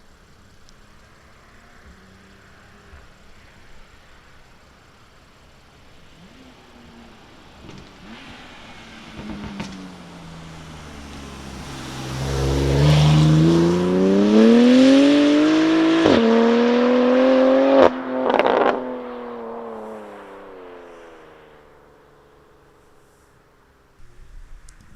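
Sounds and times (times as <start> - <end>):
car engine accelerating hard: 0.0 - 24.3
exhaust crackle: 0.0 - 24.9.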